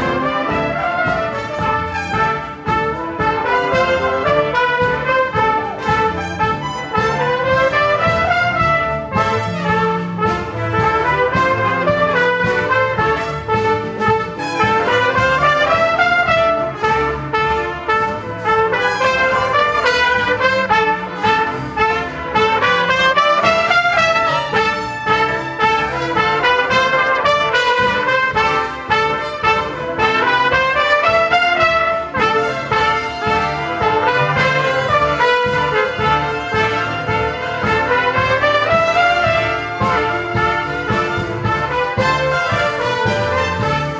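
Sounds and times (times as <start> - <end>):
trumpets playing melody: 0.0 - 43.9.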